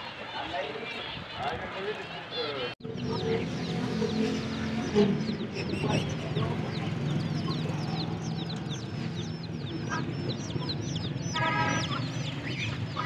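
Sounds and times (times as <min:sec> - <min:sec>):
baby chicks peeping: 0:00.0 - 0:13.0.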